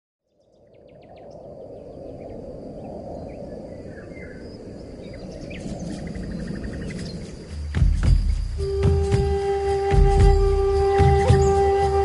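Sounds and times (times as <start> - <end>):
high insect whine: 0.9 - 12.0.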